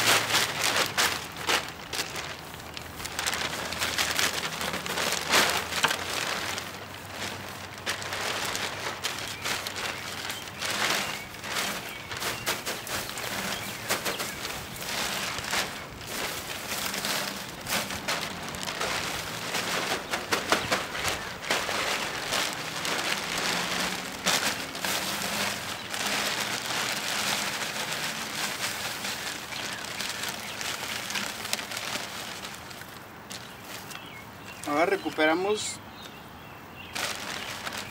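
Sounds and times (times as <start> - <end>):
plastic crinkling: 0.0 - 36.2, 36.8 - 37.9
seed pods crackling and rustling: 0.0 - 36.2, 36.8 - 37.9.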